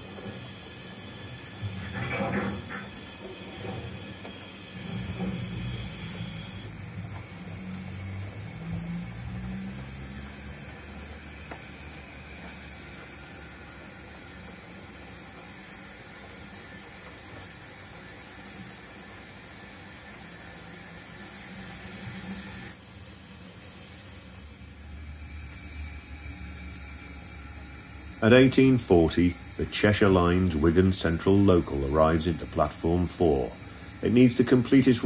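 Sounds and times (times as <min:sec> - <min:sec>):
model train wheels rumbling: 0:00.0 - 0:35.0
even hiss: 0:04.0 - 0:35.0.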